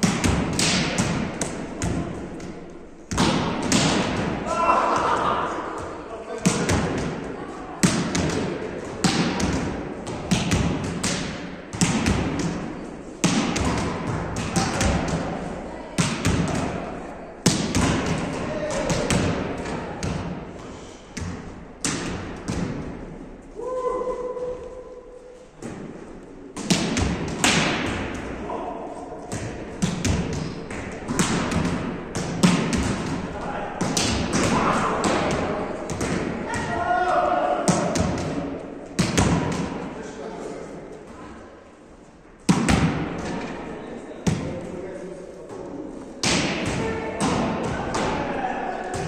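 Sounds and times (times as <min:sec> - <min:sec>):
volleyballs smacked by hands: 0:00.0 - 0:23.3, 0:25.6 - 0:28.5, 0:29.2 - 0:40.0, 0:42.2 - 0:43.6, 0:45.5 - 0:49.0.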